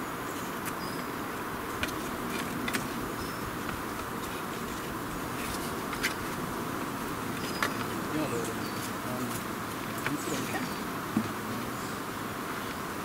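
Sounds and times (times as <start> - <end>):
steady buzzing drone: 0.0 - 13.0.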